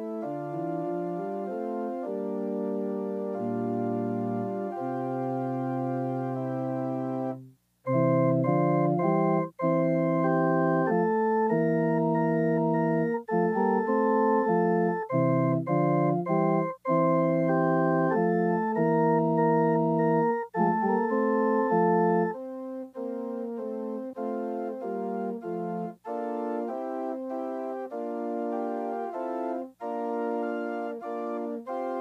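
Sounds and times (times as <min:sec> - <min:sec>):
organ playing sustained chords: 0:00.0 - 0:32.0.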